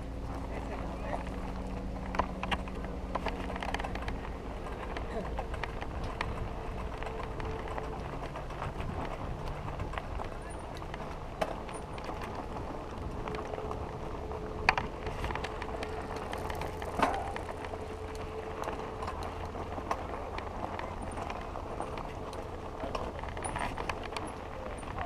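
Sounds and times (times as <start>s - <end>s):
bike clicks and rattles: 0.0s - 25.0s
bike tyres on gravel: 0.0s - 25.0s.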